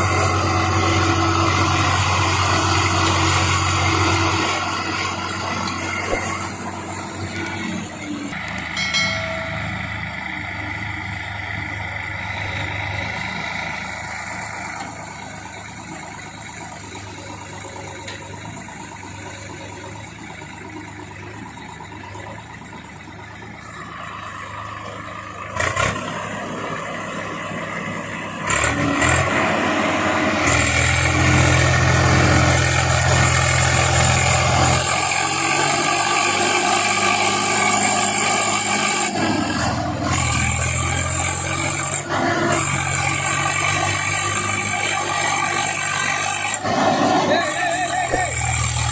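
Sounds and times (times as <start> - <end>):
diesel engine revving: 0.0 - 48.9.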